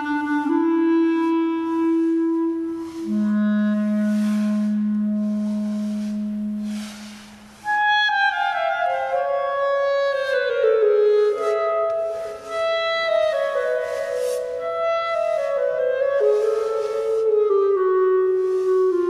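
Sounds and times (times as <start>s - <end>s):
solo clarinet: 0.0s - 19.0s.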